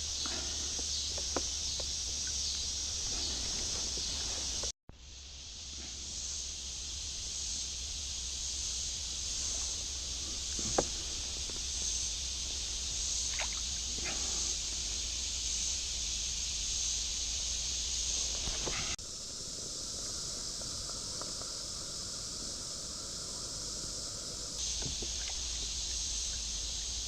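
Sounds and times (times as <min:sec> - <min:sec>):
insect drone: 0:00.0 - 0:27.0
low outdoor rumble: 0:00.0 - 0:27.0.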